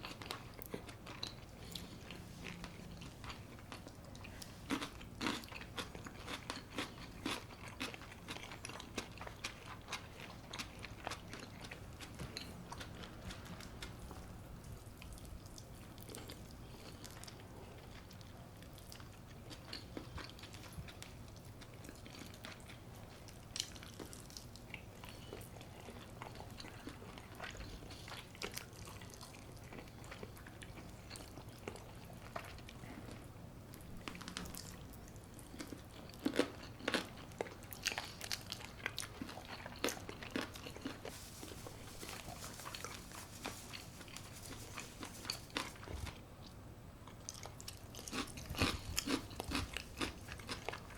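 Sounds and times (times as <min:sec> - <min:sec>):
chewing crunchy food: 0:00.0 - 0:50.9.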